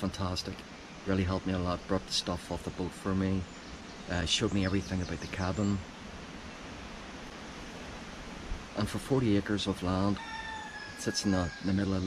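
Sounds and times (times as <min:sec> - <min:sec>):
rustling leaves: 0:00.0 - 0:12.0
wind: 0:00.0 - 0:12.0.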